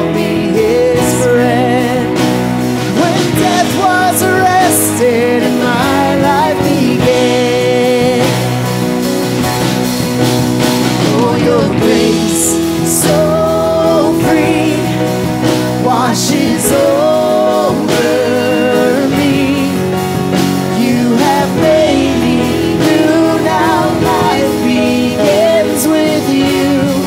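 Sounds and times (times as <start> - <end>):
person singing: 0.0 - 9.2, 10.8 - 27.0
acoustic and electric guitars: 0.0 - 27.0
drum kit: 0.0 - 27.0.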